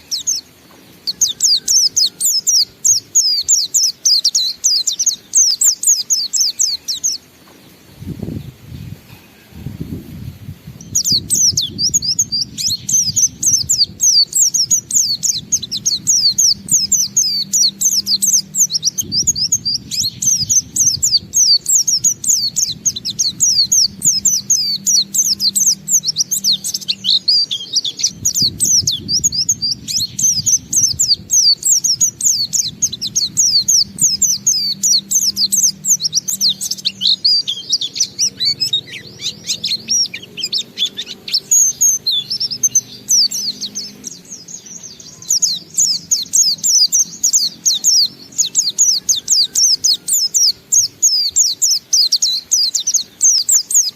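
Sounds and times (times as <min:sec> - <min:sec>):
bird singing rapid high notes: 0:10.7 - 0:53.9.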